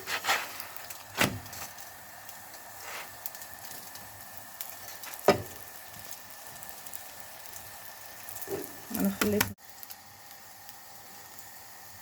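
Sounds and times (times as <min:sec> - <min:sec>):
flatbread sizzling in pan: 0:00.0 - 0:12.0.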